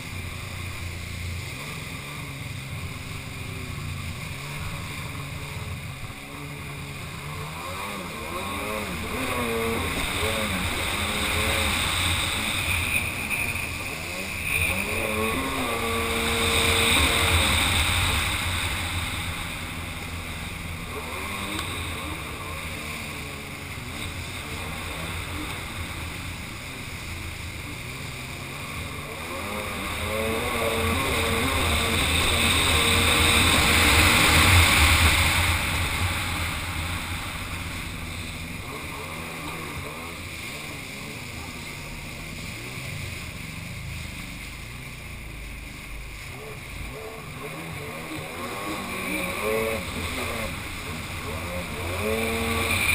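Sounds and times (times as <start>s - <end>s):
jet ski engine revving: 0.0s - 52.9s
rush of water and wind: 0.0s - 52.9s.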